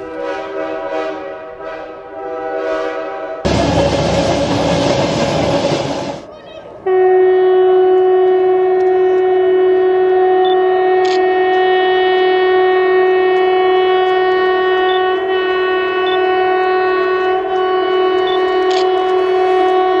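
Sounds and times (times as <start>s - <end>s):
train horn blast: 0.0s - 4.0s, 6.8s - 20.0s.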